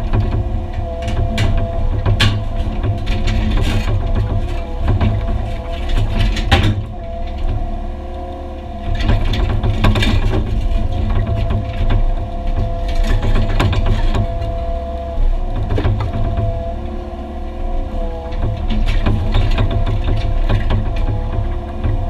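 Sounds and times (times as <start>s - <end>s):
excavator engine and hydraulics: 0.0s - 22.0s.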